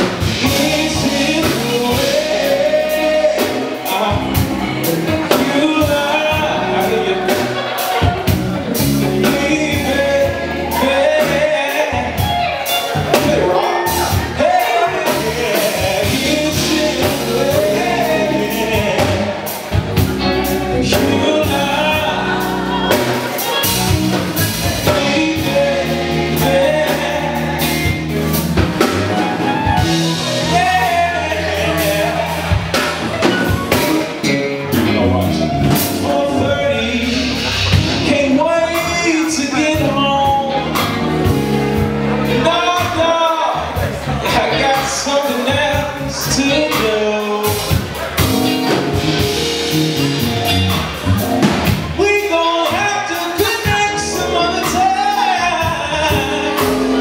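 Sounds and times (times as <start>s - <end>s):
drums: 0.0s - 57.0s
electric guitar: 0.0s - 57.0s
keyboards: 0.0s - 57.0s
man singing: 0.0s - 57.0s.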